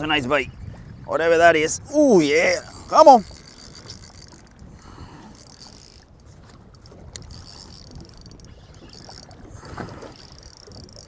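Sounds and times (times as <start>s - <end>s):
wind and sea noise: 0.0s - 11.0s.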